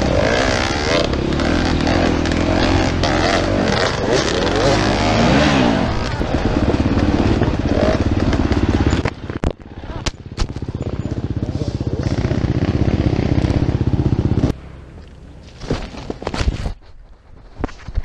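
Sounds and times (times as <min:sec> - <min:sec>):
dirt bike engine running hard: 0:00.0 - 0:14.9.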